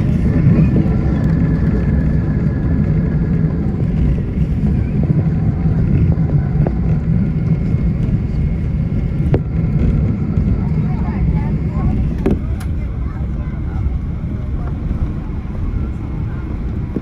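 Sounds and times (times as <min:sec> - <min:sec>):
aircraft engine cabin rumble: 0:00.0 - 0:17.0.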